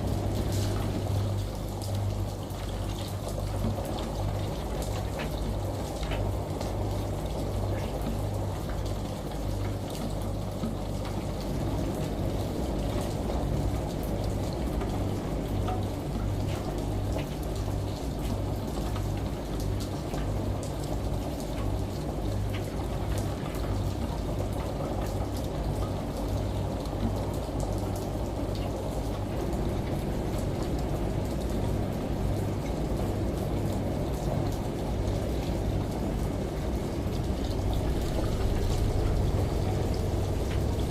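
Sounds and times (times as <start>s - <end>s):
rain: 0.0s - 40.9s
shower water running: 0.0s - 40.9s
washing machine humming: 0.0s - 40.9s.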